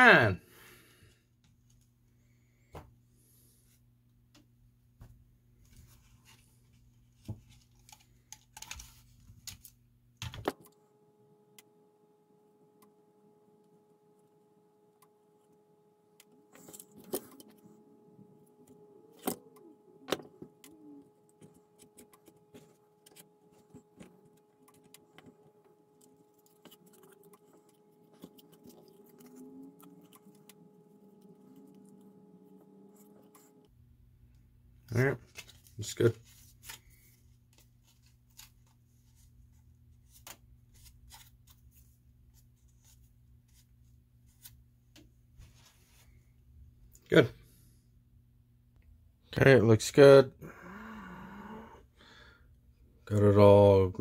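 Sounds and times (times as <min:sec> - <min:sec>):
steady low hum: 0:00.4 - 0:53.4.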